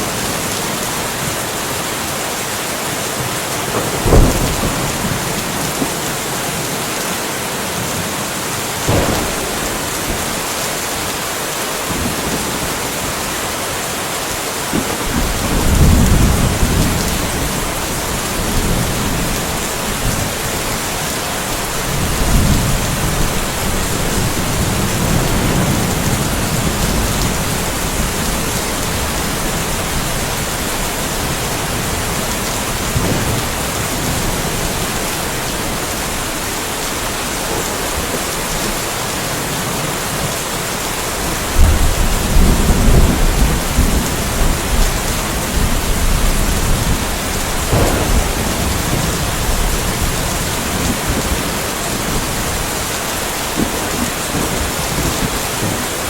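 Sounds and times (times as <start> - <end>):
steady rain: 0.0 - 56.0
rolling thunder: 3.3 - 6.7, 8.8 - 13.2, 14.7 - 38.9, 41.2 - 56.0.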